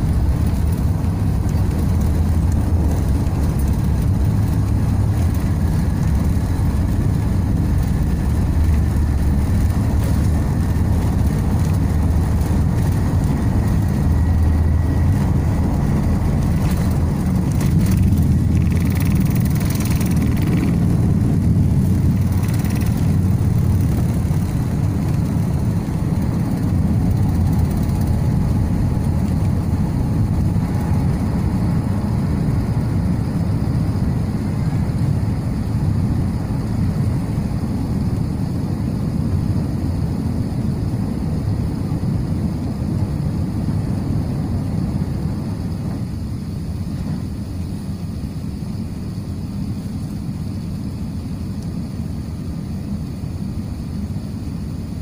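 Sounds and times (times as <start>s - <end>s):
jet engine rumble inside cabin: 0.0s - 55.0s.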